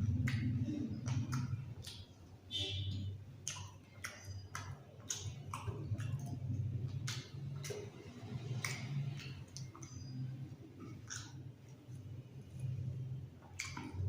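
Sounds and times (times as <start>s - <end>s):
mouth clicks and smacks: 0.0s - 14.0s
person chewing food: 0.0s - 14.0s.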